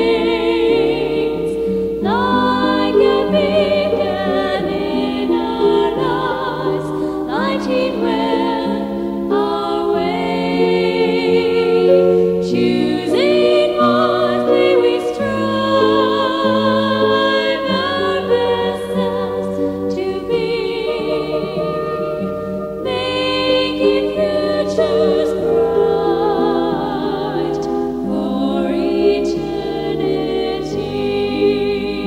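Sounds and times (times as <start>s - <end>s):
choir singing: 0.0s - 32.0s.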